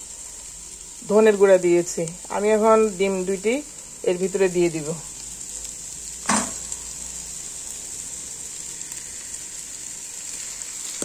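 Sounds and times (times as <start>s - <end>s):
cabbage sizzling in a pot: 0.0s - 11.0s.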